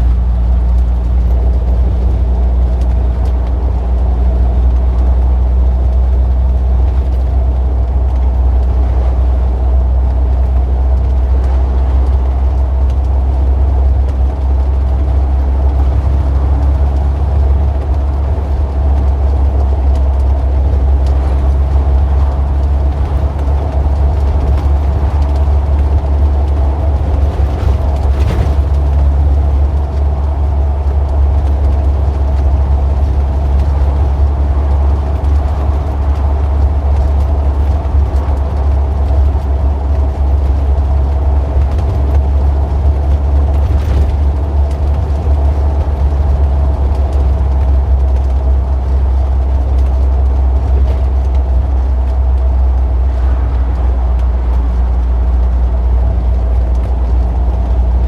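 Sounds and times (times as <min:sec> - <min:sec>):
steady engine tones: 0:00.0 - 0:58.0
traffic engines rumbling: 0:00.0 - 0:58.0.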